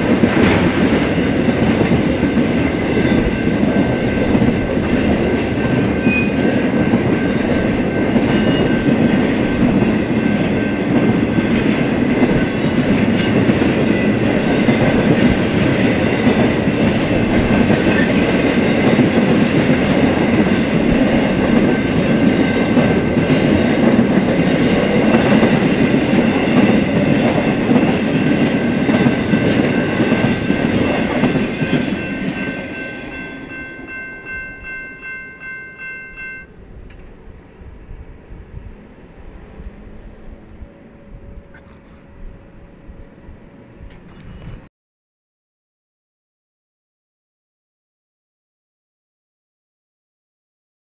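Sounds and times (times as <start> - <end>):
freight train cars rolling: 0.0 - 44.6.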